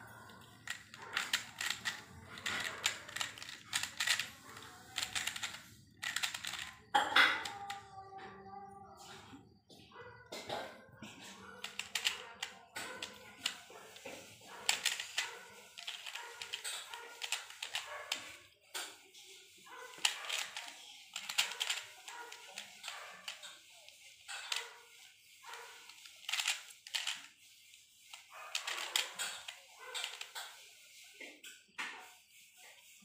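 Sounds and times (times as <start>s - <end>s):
plastic puzzle clicking: 0.2s - 7.9s, 11.2s - 30.7s.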